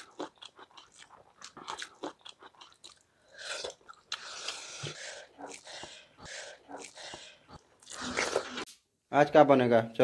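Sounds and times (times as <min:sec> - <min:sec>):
chewing and crunching food: 0:00.0 - 0:08.7.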